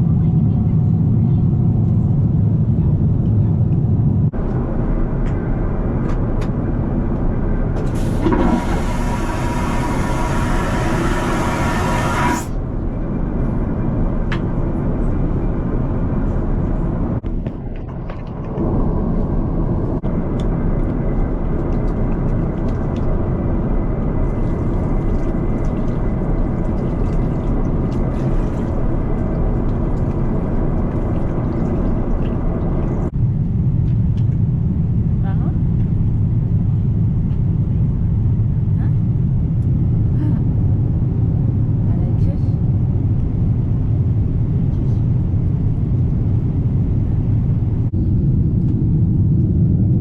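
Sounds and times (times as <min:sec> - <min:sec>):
vehicle interior rumble: 0:00.0 - 0:50.0.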